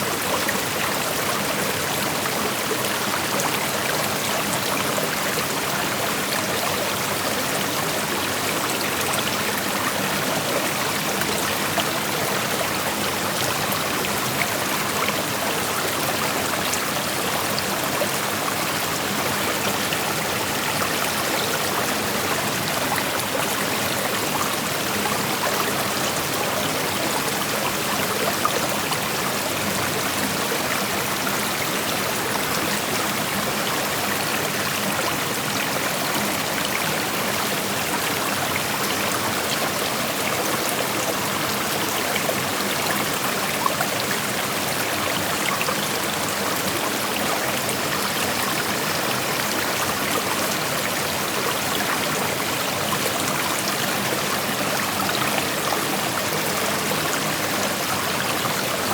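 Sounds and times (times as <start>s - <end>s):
creek water rushing over stones: 0.0s - 58.9s.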